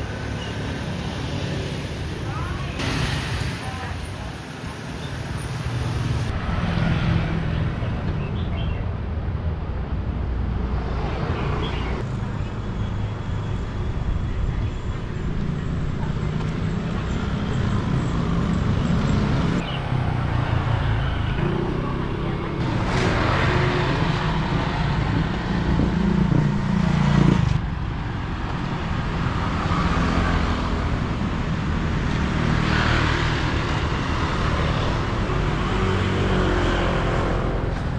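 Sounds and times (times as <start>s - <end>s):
vehicle engines passing: 0.0s - 37.9s.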